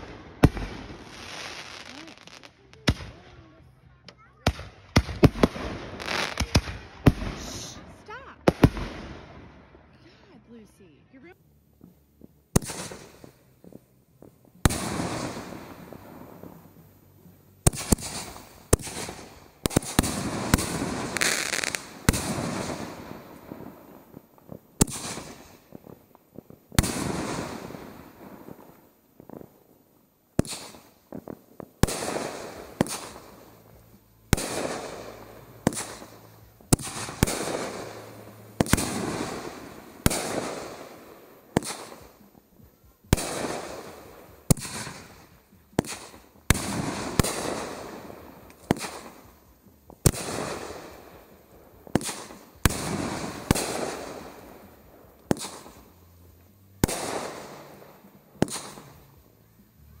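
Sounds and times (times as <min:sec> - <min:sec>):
fireworks bangs: 0:00.0 - 0:03.6, 0:04.4 - 0:09.6, 0:11.8 - 0:17.0, 0:17.6 - 0:29.7, 0:30.3 - 0:42.4, 0:43.0 - 0:56.0, 0:56.8 - 0:59.2
fireworks crackle: 0:00.0 - 0:09.3, 0:10.0 - 1:00.0.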